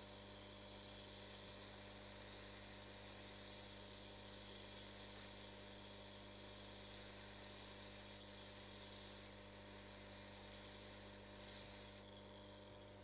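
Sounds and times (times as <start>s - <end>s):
low mains hum: 0.0s - 13.0s.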